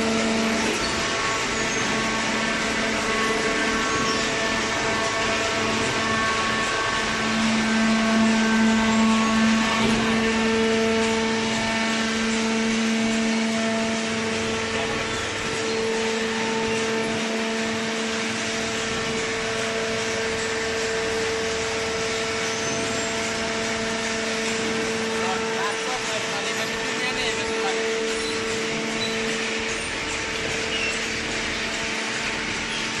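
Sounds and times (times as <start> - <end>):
baler pump and motor hum: 0.0 - 33.0.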